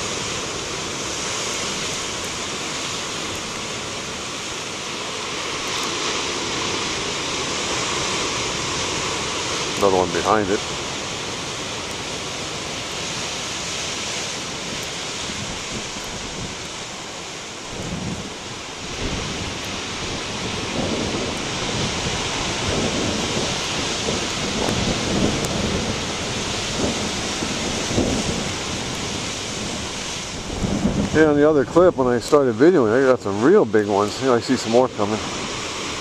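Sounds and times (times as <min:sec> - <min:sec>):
waves crashing on rocks: 0:00.0 - 0:36.0.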